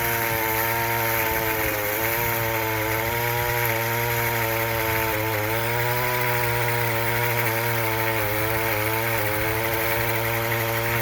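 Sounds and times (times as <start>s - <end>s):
chainsaw engine cutting tree limb: 0.0s - 11.0s.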